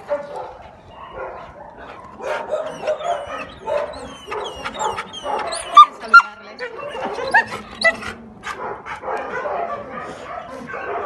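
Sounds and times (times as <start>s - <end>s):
dog barking and yipping: 0.0s - 11.0s.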